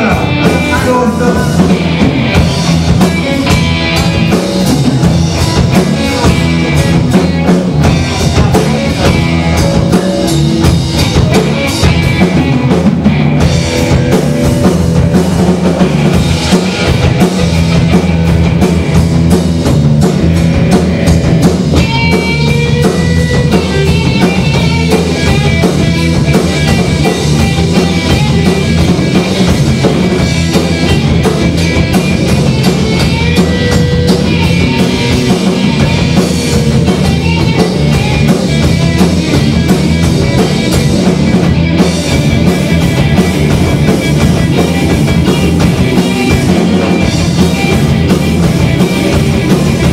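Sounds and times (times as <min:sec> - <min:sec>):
bass guitar: 0:00.0 - 0:49.9
drum kit: 0:00.0 - 0:49.9
electric guitar: 0:00.0 - 0:49.9.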